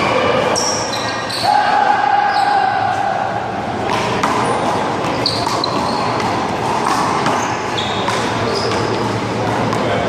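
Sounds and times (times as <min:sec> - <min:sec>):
background noise: 0:00.0 - 0:10.0.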